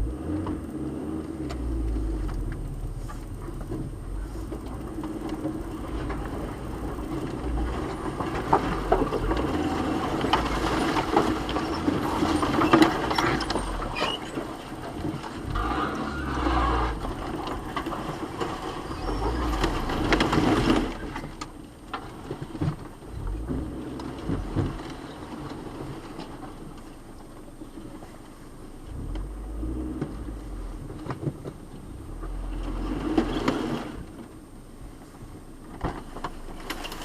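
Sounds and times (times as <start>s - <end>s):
road and engine noise: 0.0s - 37.0s.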